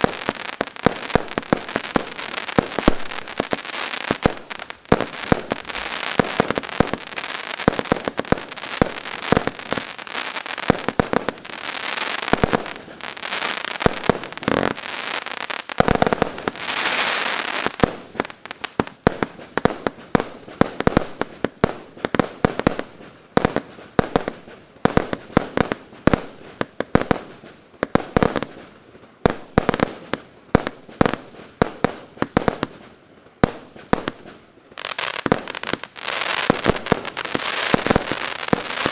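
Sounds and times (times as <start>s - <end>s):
firework bangs: 0.0s - 27.3s, 33.4s - 38.9s
fireworks hissing and crackling: 0.0s - 38.9s.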